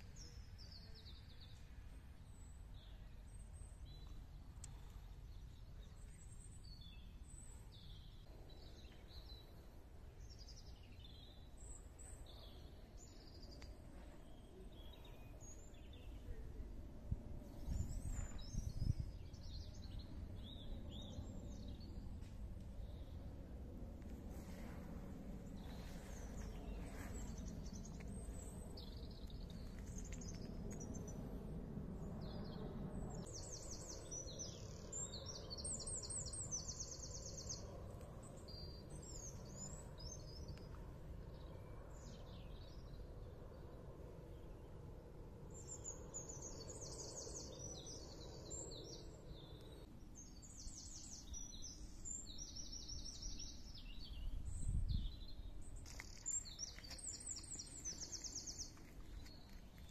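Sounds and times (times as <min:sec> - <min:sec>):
birds singing: 0:00.0 - 0:16.6, 0:17.3 - 0:23.6, 0:25.4 - 0:31.4, 0:32.0 - 0:44.9, 0:45.5 - 0:59.9
low outdoor rumble: 0:00.0 - 0:59.9.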